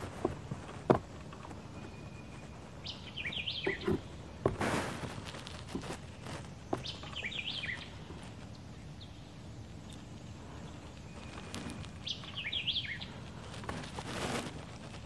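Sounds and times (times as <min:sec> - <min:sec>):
songbird warbling: 0:00.0 - 0:04.5, 0:05.8 - 0:13.6.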